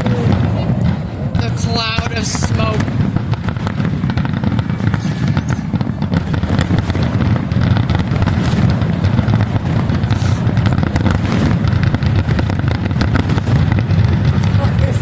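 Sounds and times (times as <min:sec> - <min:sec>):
fireworks popping: 0:00.0 - 0:15.0
fireworks rumble: 0:00.0 - 0:15.0.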